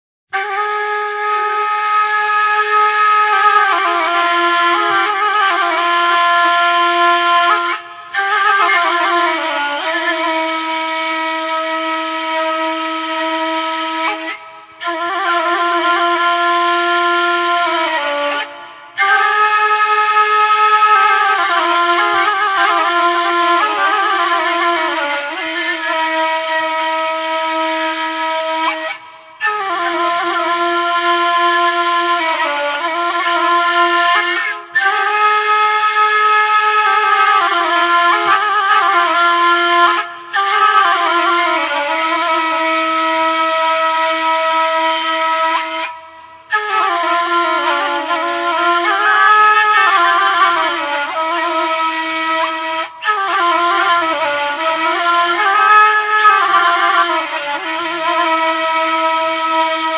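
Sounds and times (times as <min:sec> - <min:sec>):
solo wind instrument melody: 0:00.3 - 0:59.9.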